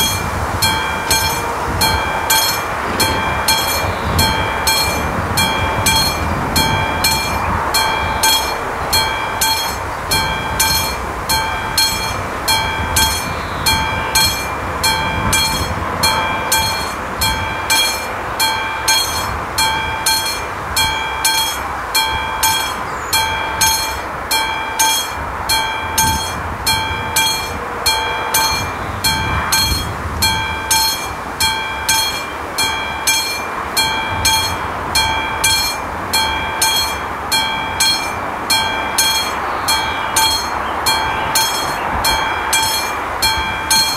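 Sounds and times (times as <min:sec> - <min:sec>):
mechanical warning bell ringing: 0:00.0 - 0:43.9.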